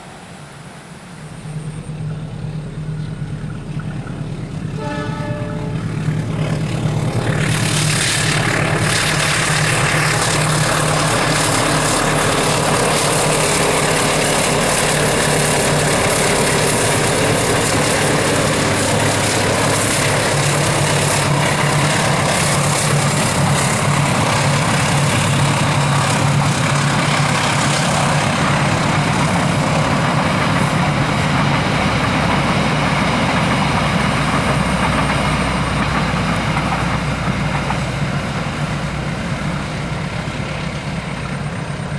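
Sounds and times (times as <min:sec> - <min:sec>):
diesel locomotive engine hum: 0:00.0 - 0:41.9
train coaches rolling: 0:00.0 - 0:41.9.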